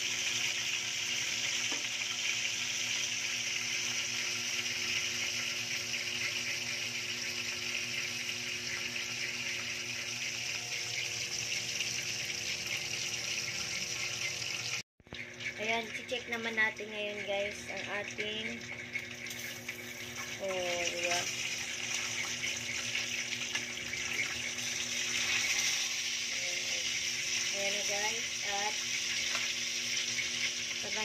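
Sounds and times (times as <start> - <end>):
chicken frying in oil: 0.0 - 31.0.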